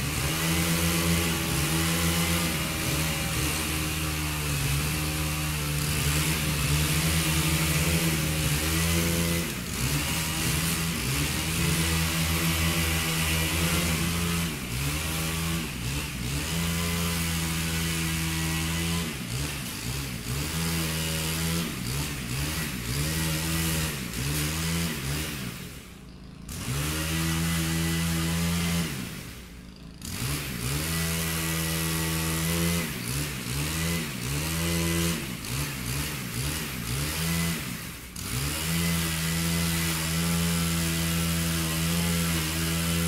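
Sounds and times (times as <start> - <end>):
chainsaw running: 0.0 - 43.0.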